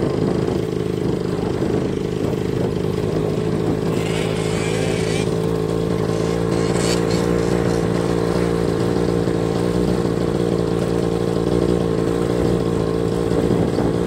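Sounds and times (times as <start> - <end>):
quad bike engine running: 0.0 - 14.0.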